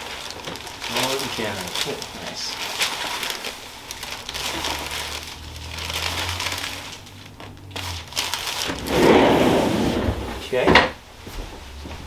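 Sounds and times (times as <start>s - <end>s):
rustling and crinkling of cover: 0.0s - 12.0s.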